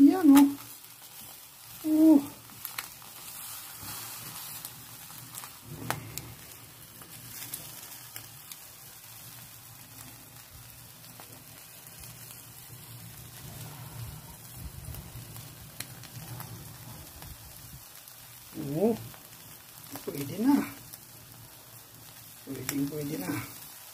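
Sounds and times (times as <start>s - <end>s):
chicken sizzling on a grill: 0.0s - 23.9s.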